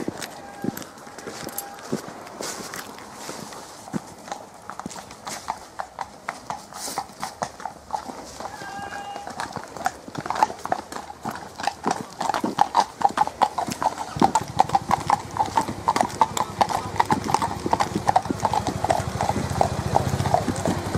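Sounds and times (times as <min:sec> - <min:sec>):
horse hooves on tarmac: 0:00.0 - 0:20.9.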